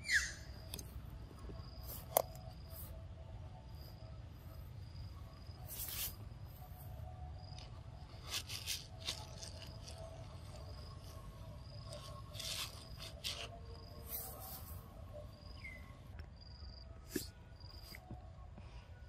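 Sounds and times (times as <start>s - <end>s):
insect calls: 0.0s - 18.1s.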